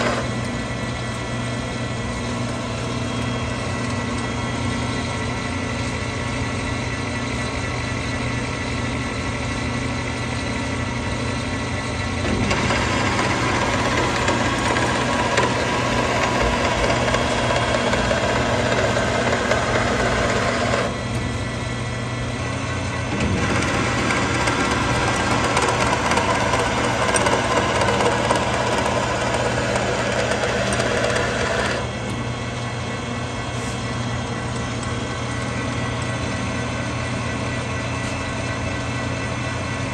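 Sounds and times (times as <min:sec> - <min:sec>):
lathe cutting metal: 0:00.0 - 0:01.1, 0:02.3 - 0:39.8
lathe motor hum: 0:00.0 - 0:39.9.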